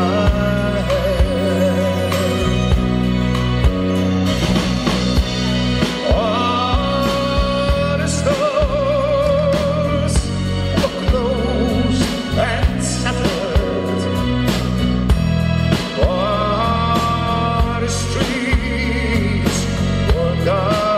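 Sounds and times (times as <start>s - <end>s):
man singing with vibrato: 0.0s - 3.0s, 5.8s - 14.5s, 15.8s - 20.9s
drum kit beat: 0.0s - 20.9s
rock band playing: 0.0s - 20.9s.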